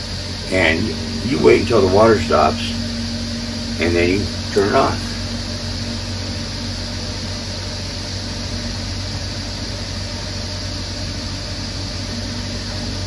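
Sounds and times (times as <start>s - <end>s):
spin dryer motor whirring: 0.0s - 13.0s.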